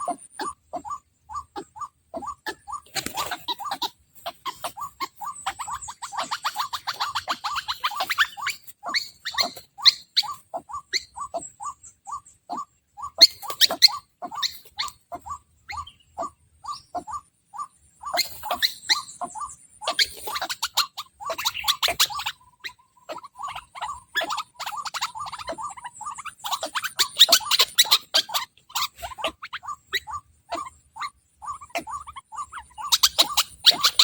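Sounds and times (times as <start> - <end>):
bird calling harsh notes: 0.0 - 34.0.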